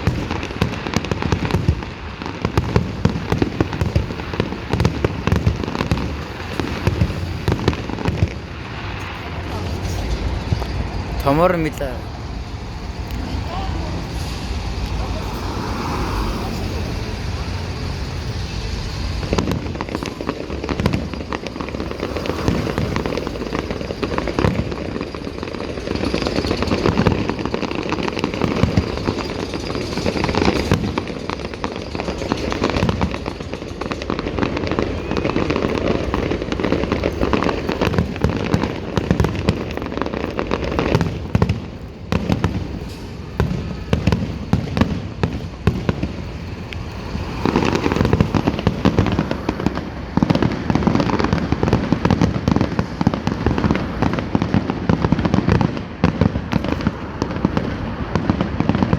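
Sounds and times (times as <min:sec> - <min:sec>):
fireworks bangs and crackling: 0:00.0 - 0:58.9.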